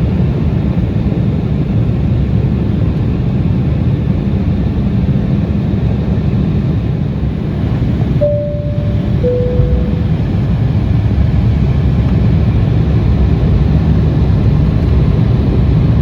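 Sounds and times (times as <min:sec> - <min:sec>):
jet cabin engine rumble: 0:00.0 - 0:16.0.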